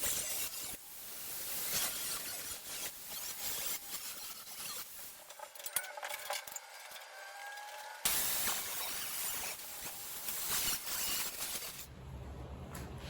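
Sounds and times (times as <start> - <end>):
angle grinder cutting steel: 1.4 - 11.9.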